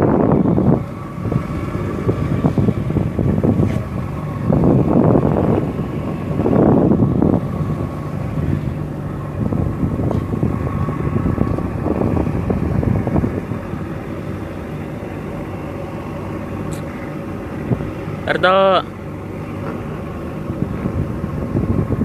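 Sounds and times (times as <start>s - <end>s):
small boat engine running: 0.0s - 22.0s
wind buffeting microphone: 0.0s - 22.0s.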